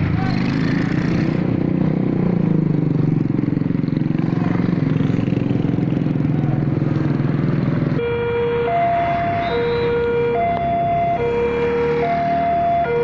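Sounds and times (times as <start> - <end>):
scooters and car passing: 0.0 - 8.0, 8.6 - 13.0.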